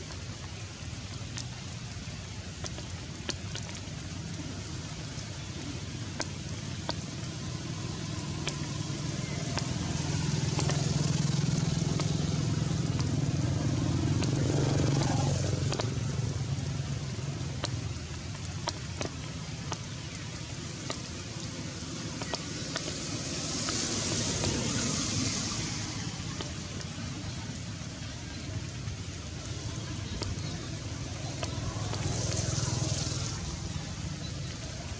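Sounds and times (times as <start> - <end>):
steady rain: 0.0 - 34.9
low engine hum: 3.7 - 34.9.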